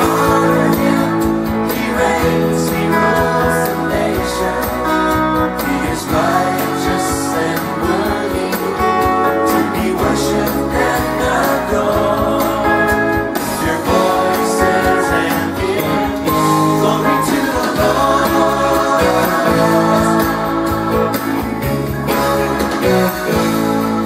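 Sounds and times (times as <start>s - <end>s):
band backing track: 0.0s - 24.0s
electric guitar sustained notes: 0.0s - 24.0s.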